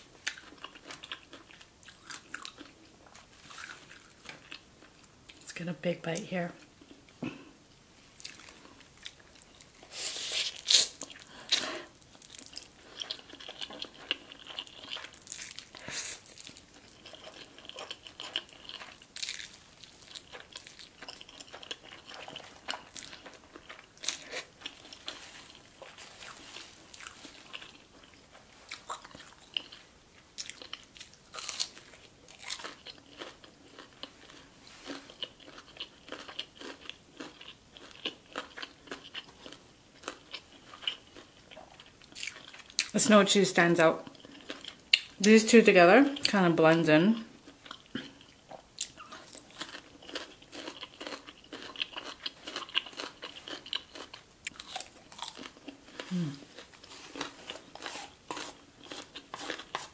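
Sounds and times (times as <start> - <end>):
person chewing noodles: 0.0 - 5.4, 8.2 - 42.9, 44.0 - 45.2, 47.3 - 59.9.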